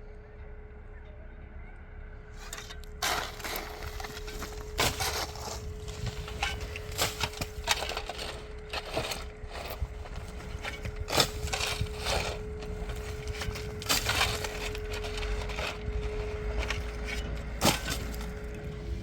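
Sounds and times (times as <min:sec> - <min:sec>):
steady low hum: 0:00.0 - 0:19.0
scraping and crunching of rough material: 0:02.4 - 0:19.0.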